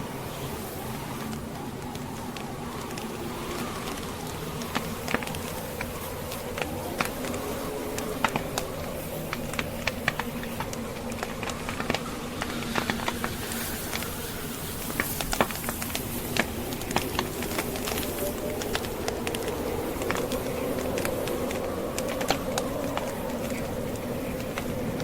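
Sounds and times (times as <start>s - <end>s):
blizzard wind drone: 0.0s - 25.0s
logs crackling in fireplace: 0.0s - 25.0s.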